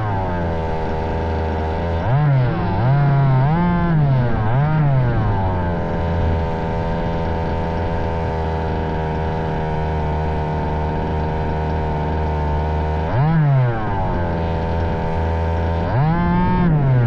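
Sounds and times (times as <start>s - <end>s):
two-stroke model car engine: 0.0s - 17.0s.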